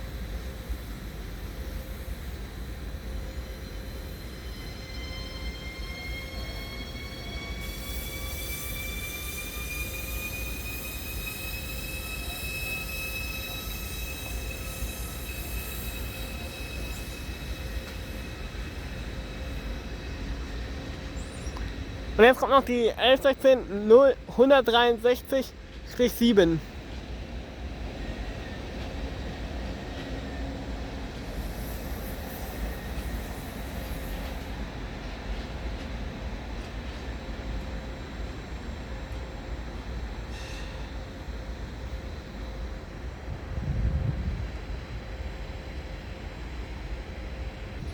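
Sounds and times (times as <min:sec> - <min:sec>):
electric locomotive rumbling: 0:00.0 - 0:47.9
electric train whine: 0:00.0 - 0:47.9.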